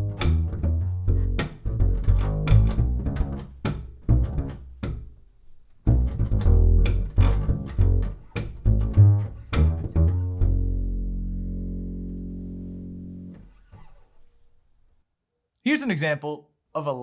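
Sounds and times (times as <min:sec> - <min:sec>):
double bass plucked: 0:00.0 - 0:14.0.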